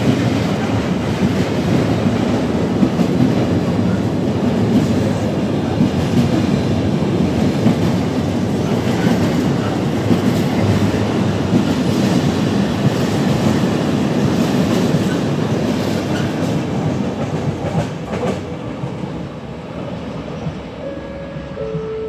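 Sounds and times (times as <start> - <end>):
freight train rolling past: 0.0 - 22.0.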